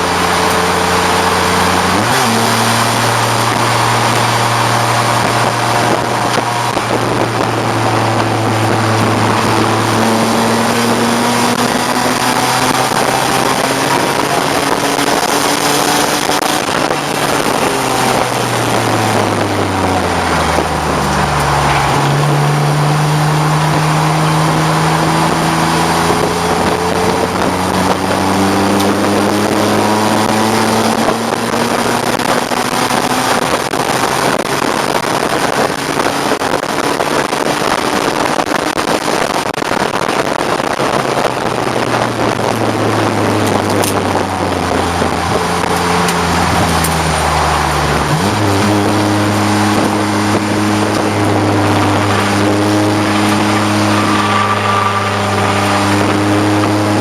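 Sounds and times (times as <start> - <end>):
race car engine revving: 0.0 - 57.0
wind noise: 0.0 - 57.0.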